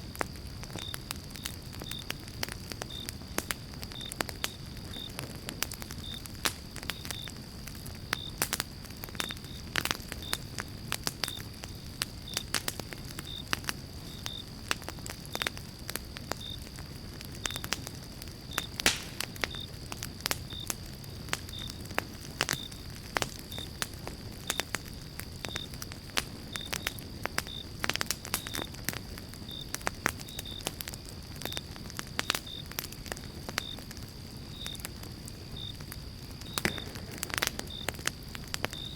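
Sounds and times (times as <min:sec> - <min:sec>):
campfire crackling and popping: 0:00.0 - 0:38.9
low rumble of flames: 0:00.0 - 0:38.9.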